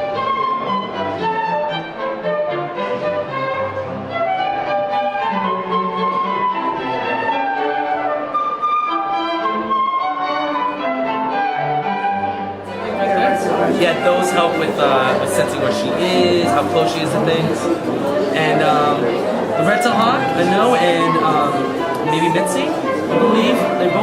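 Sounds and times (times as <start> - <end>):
classical strings and flute music: 0.0 - 24.0.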